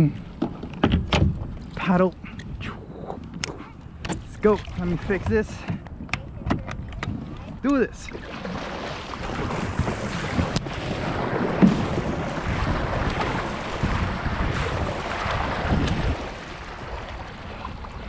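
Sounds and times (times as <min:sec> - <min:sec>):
wind buffeting microphone: 0:00.0 - 0:18.0
kayak paddle splashing: 0:00.1 - 0:18.0.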